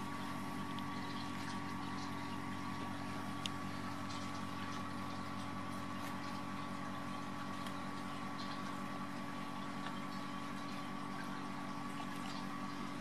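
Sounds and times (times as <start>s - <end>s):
mechanical hum with high tone: 0.0s - 13.0s.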